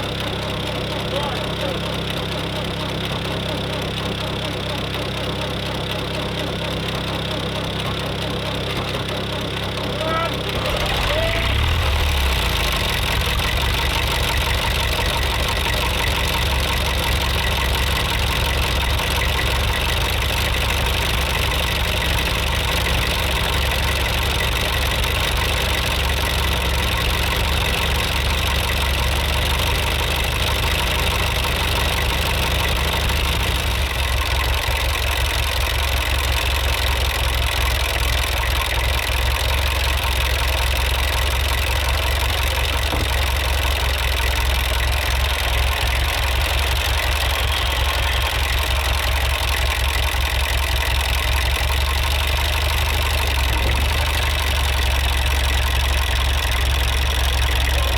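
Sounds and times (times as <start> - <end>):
tractor engine droning: 0.0 - 57.9.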